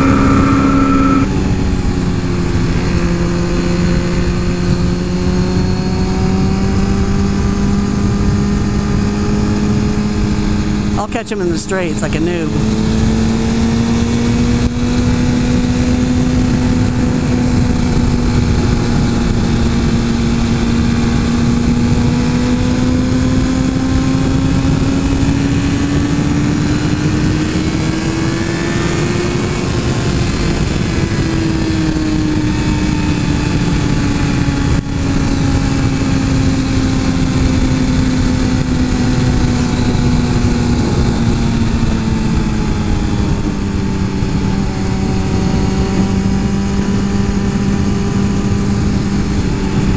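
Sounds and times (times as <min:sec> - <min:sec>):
wind rushing over microphone: 0:00.0 - 0:11.0, 0:12.5 - 0:49.9
motorcycle engine cruising: 0:00.0 - 0:11.1, 0:12.5 - 0:49.9.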